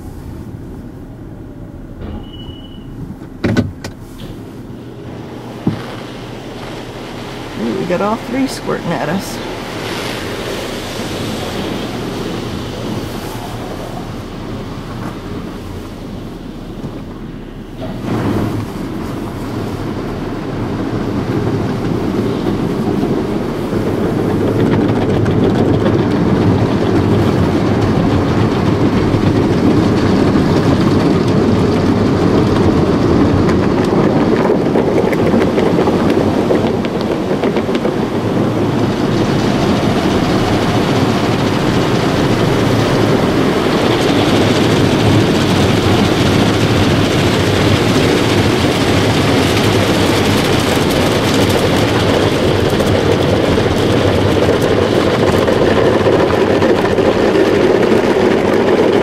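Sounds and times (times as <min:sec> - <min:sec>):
water and foam pounding car: 0:03.2 - 0:59.0.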